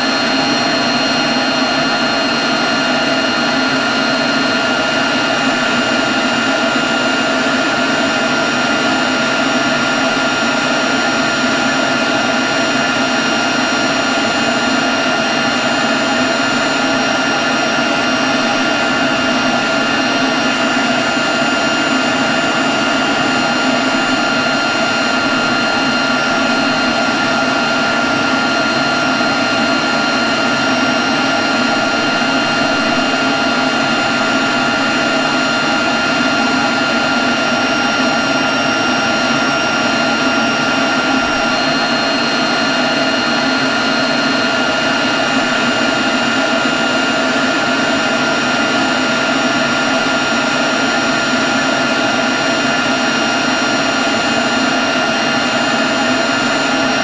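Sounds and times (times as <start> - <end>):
leaf blower running: 0.0 - 57.0.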